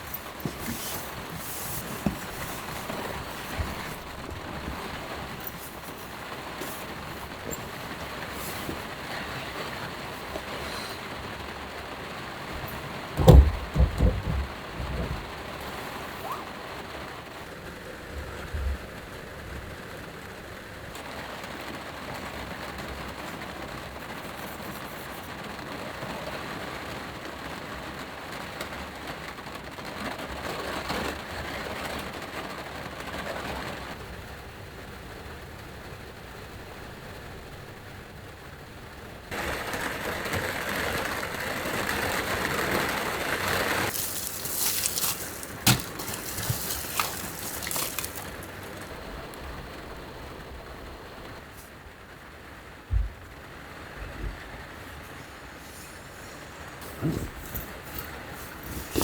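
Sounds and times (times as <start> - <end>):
heavy rain on a van roof: 0.0 - 59.0.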